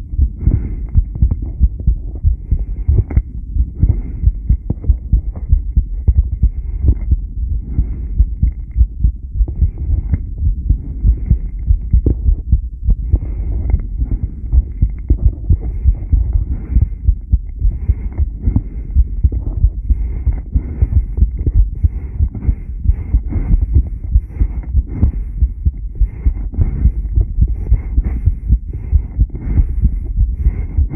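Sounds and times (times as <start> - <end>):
heartbeat thuds: 0.0 - 30.9.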